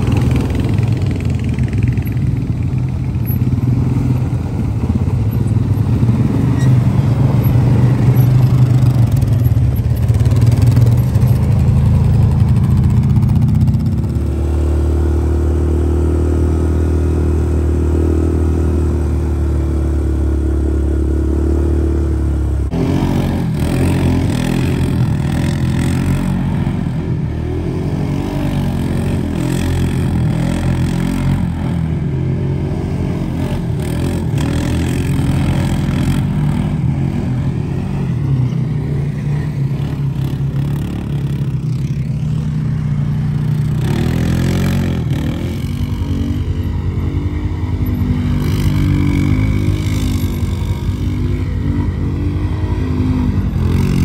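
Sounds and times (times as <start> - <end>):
atv engines running: 0.0 - 54.0
quad engines revving: 0.0 - 54.0.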